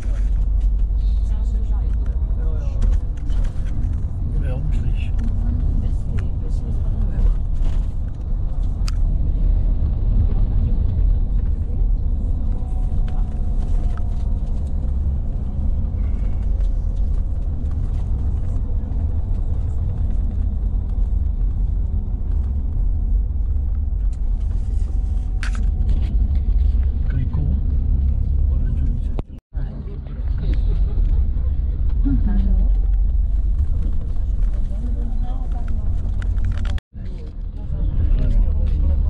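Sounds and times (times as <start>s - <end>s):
vehicle rumble: 0.0s - 39.0s.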